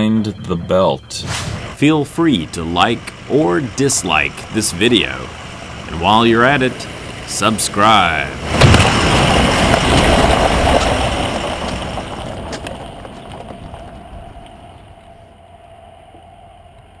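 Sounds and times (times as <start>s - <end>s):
pickup truck driving on gravel: 0.0s - 17.0s.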